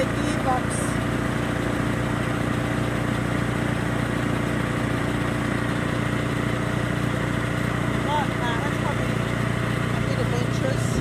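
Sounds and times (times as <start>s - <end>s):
chipper engine running: 0.0s - 11.0s.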